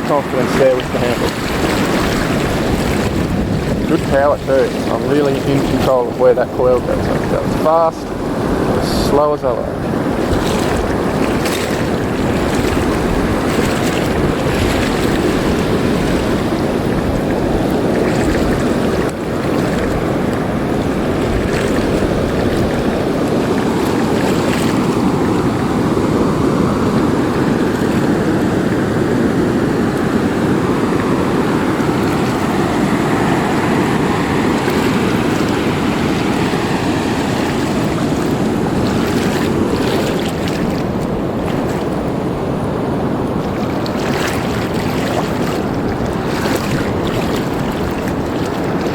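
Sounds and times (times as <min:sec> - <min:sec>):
waves washing in shallow surf: 0:00.0 - 0:48.9
wind buffeting microphone: 0:00.0 - 0:48.9.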